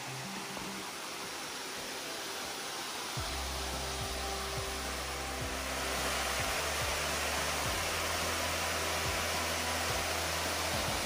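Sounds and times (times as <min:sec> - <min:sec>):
water rushing down waterfalls: 0:00.0 - 0:11.0.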